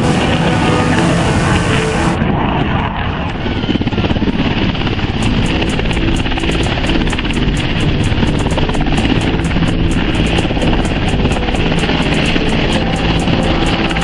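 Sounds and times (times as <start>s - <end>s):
pulsing aircraft engine drone: 0.0s - 14.0s.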